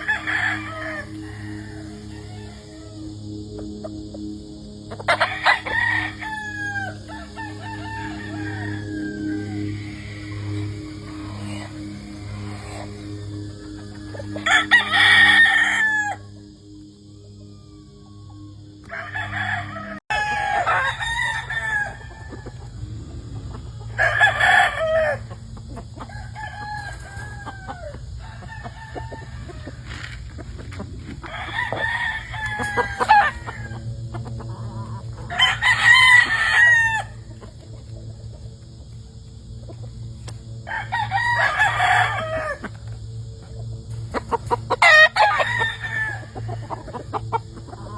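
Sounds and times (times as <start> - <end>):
chickens clucking and calling: 0.0 - 47.9
roosters crowing: 0.0 - 47.9.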